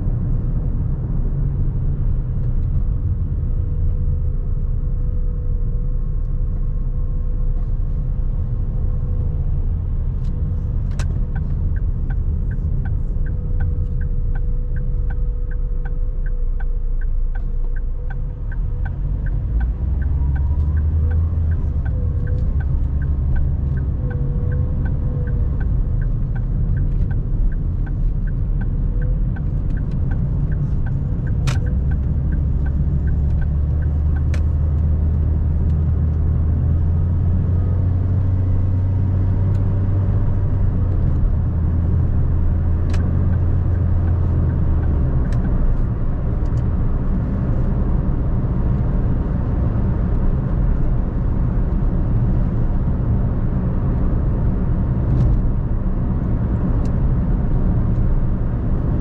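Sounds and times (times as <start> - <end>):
car tyre and engine rumble: 0.0 - 59.0
turn signal ticking: 0.1 - 59.0.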